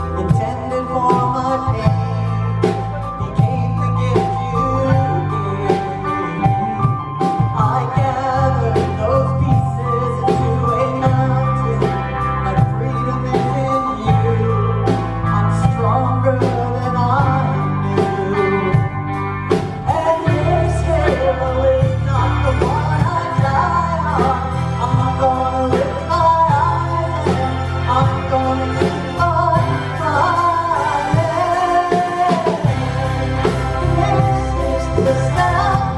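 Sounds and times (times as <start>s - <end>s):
band playing slow rock: 0.0s - 35.9s
drum beats: 0.0s - 35.9s
person singing: 0.0s - 35.9s
steady bass line: 0.0s - 35.9s.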